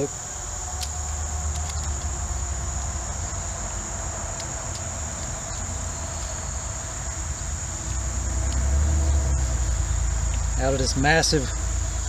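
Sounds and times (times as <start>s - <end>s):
high-pitched insect drone: 0.0s - 12.0s
low rumble of traffic: 0.0s - 12.0s.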